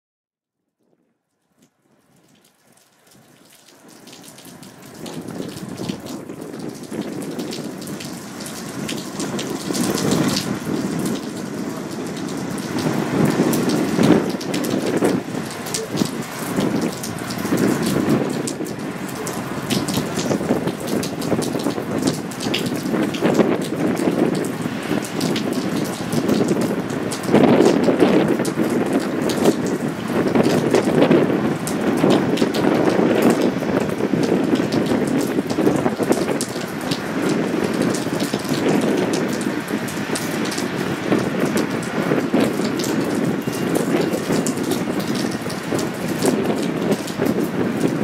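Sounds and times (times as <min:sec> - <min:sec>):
steady rain falling: 0:01.3 - 0:48.0.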